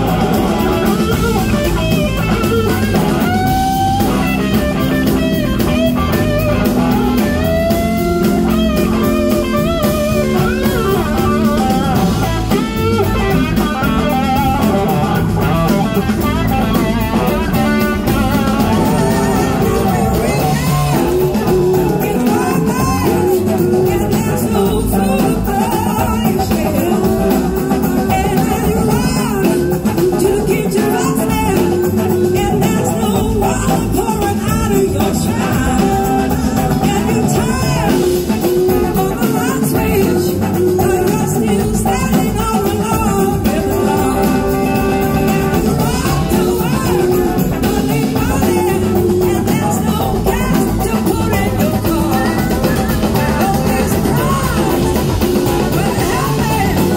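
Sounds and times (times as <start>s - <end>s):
blues-rock band playing: 0.0s - 56.9s
slide electric guitar: 0.0s - 56.9s
woman singing: 0.0s - 56.9s.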